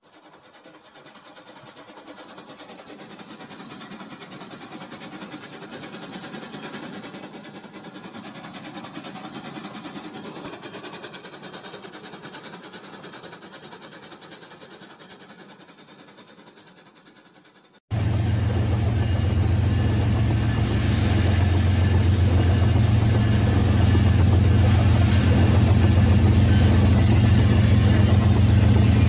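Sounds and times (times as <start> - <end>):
wheels clicking on track: 0.0 - 17.8, 18.5 - 29.0.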